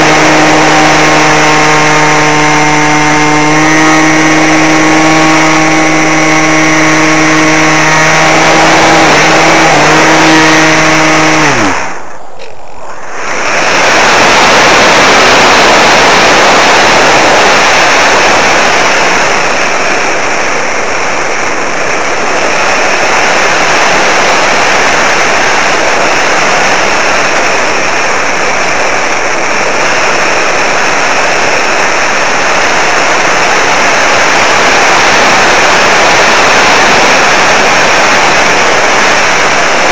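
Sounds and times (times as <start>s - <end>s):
model aircraft motor whining: 0.0s - 39.9s
wind rushing over microphone: 0.0s - 39.9s.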